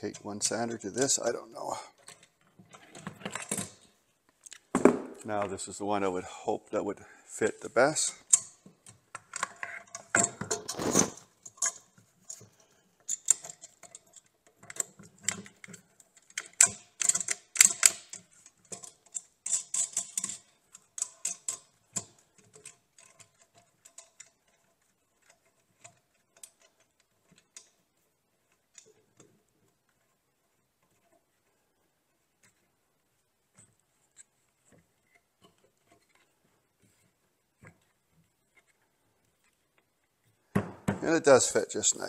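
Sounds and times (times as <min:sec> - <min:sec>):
clicks and rattles of sander handling: 0:00.1 - 0:05.6, 0:08.2 - 0:41.2.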